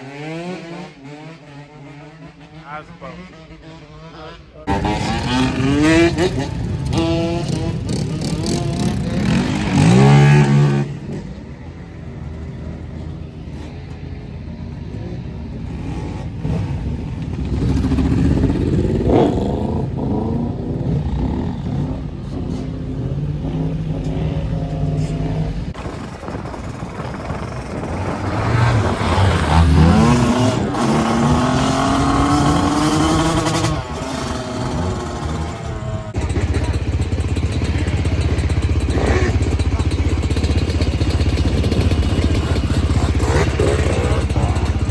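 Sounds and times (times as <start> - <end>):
motorbike and quad engines revving: 0.0 - 44.9.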